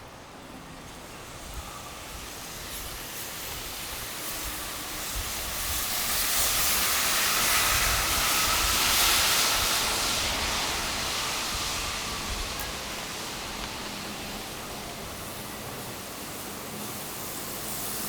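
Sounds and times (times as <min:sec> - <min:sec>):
faint steady whine: 0:00.0 - 0:18.0
vehicle tyre hiss on snow: 0:00.0 - 0:18.0.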